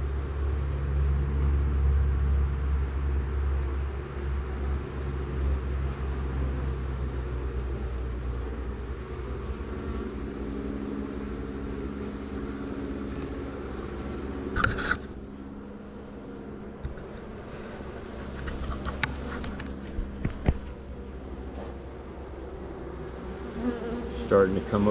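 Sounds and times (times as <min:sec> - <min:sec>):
bees humming: 0:03.7 - 0:24.9.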